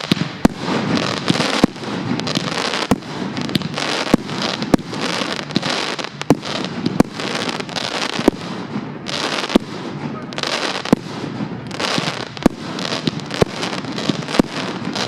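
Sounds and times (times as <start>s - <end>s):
firework bangs: 0.0s - 15.0s
firework crackling hiss: 0.0s - 15.0s.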